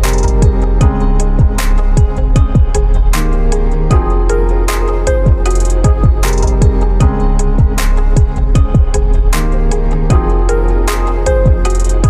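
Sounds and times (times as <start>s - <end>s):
deep kick drums: 0.0s - 4.3s, 5.1s - 9.5s, 10.1s - 10.5s, 11.3s - 12.0s
sustained synth chords: 0.0s - 12.0s.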